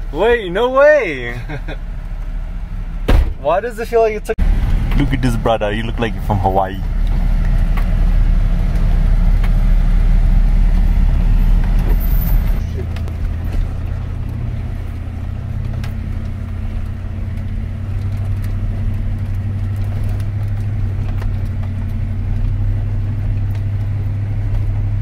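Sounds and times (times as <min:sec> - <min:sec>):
car engine drone: 0:00.0 - 0:25.0
road noise: 0:00.0 - 0:25.0.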